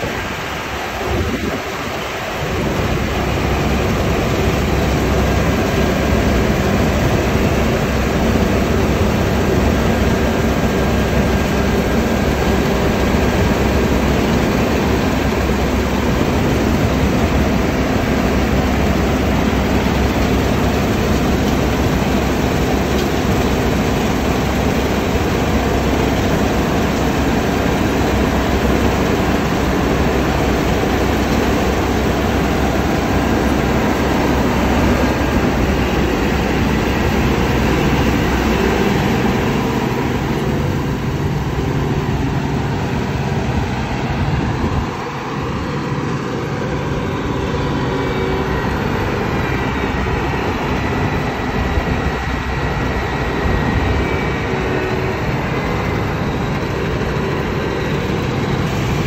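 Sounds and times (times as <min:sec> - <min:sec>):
heavy machinery running: 0:00.0 - 0:59.0.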